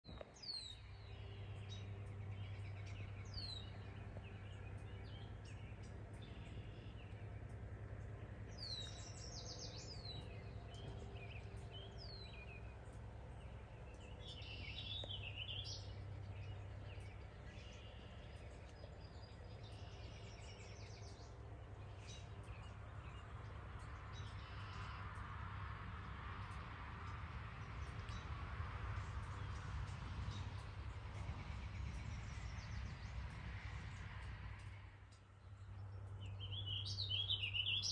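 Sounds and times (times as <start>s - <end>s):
songbirds chirping: 0.0s - 37.9s.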